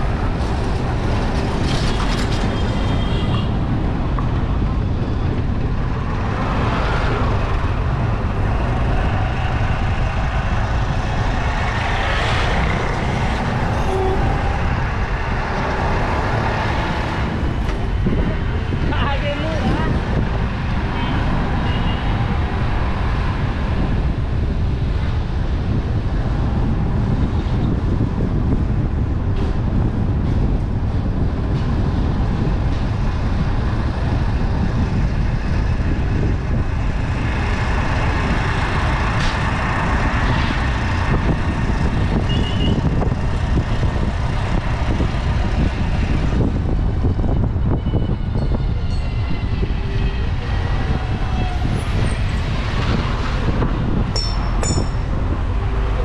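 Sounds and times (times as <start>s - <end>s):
vehicle road noise: 0.0s - 56.0s.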